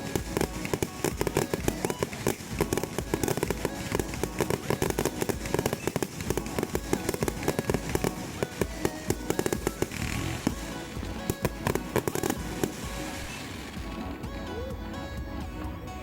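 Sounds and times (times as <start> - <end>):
fireworks bangs and crackles: 0.0 - 14.4
background music: 0.0 - 16.0.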